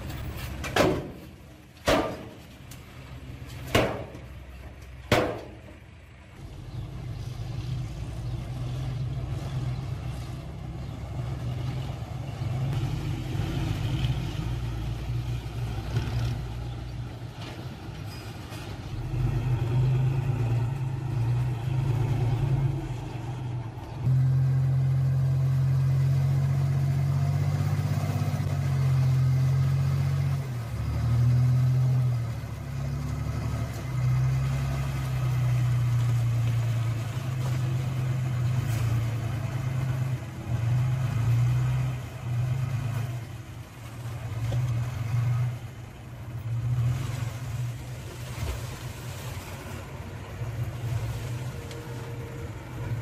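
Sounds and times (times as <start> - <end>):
dump truck diesel engine: 0.0 - 53.0.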